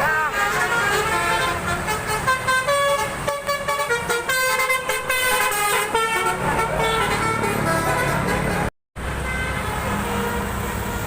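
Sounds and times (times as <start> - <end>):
bus air horn tune: 0.0 - 11.0.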